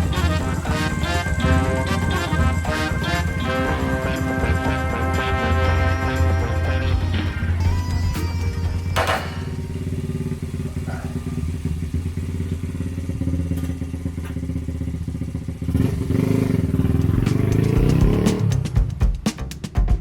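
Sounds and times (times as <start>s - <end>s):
small engine running and revving: 0.0s - 7.9s, 9.0s - 18.8s.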